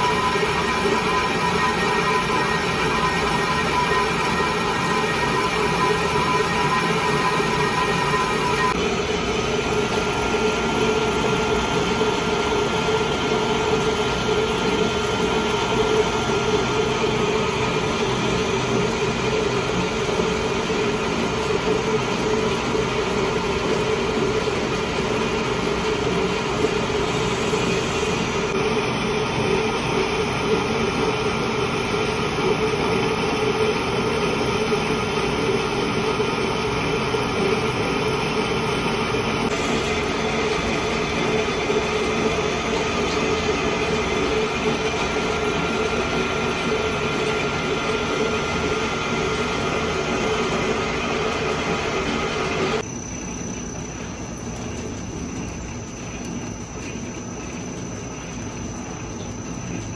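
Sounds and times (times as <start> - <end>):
metal lathe running: 0.0 - 59.9.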